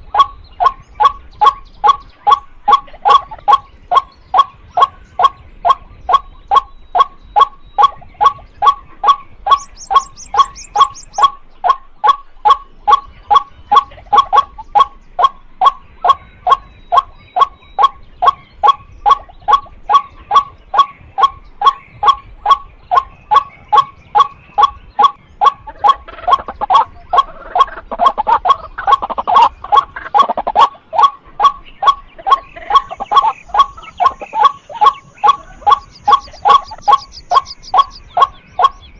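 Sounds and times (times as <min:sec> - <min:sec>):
rougher overlapping bird call: 0:00.0 - 0:38.9
waterhen harsh calls: 0:01.8 - 0:12.2, 0:13.3 - 0:38.8.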